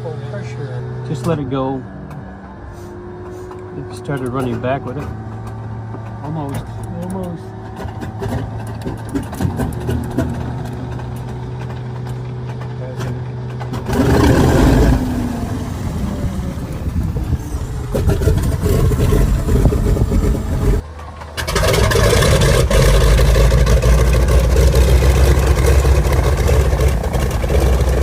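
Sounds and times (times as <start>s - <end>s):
aircraft piston engine running: 1.2s - 28.0s.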